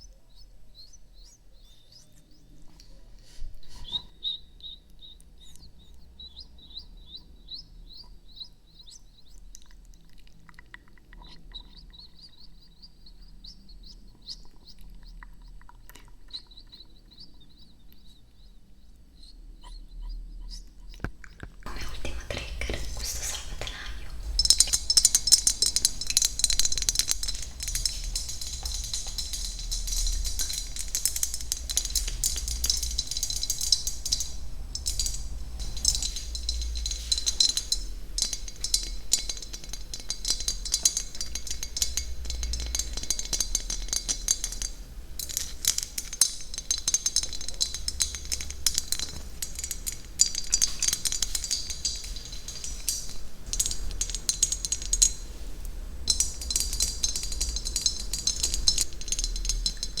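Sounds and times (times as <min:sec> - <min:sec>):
small clicks taps and clinks: 0:03.8 - 0:18.2, 0:20.9 - 1:00.0.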